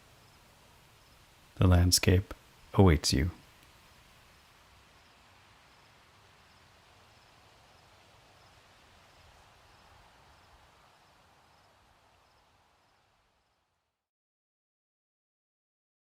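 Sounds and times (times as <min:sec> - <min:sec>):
soft outdoor hiss: 0:00.0 - 0:14.1.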